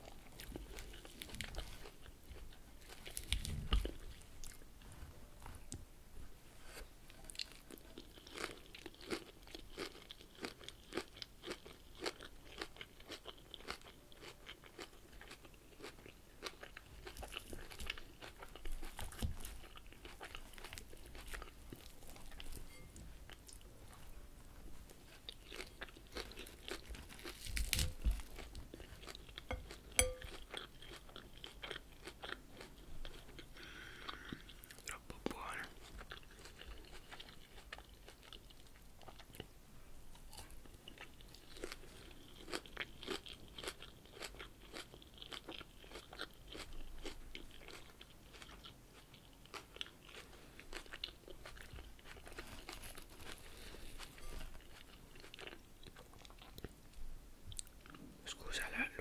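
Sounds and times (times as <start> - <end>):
chewing crunchy salad leaves: 0.0 - 5.8, 6.6 - 39.5, 40.1 - 59.0.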